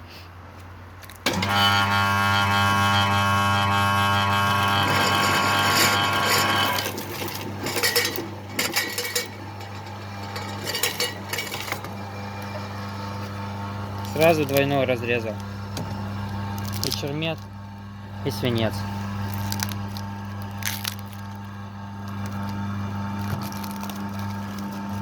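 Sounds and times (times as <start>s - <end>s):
cable-stripping machine motor hum: 1.2s - 25.0s
metallic whine cutting cable: 1.2s - 25.0s.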